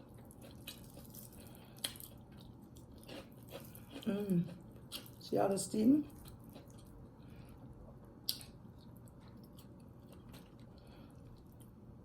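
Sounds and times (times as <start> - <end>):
person chewing food: 0.0 - 5.2, 6.1 - 11.8.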